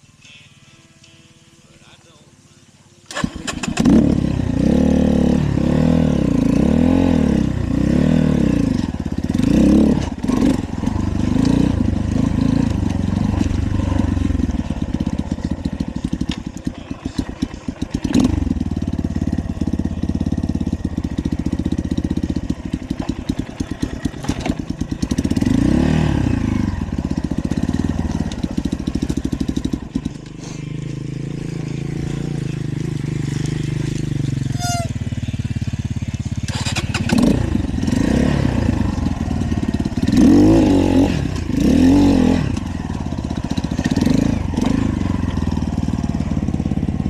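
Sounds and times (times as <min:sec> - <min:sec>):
dirt bike engine revving: 0:03.1 - 0:47.0.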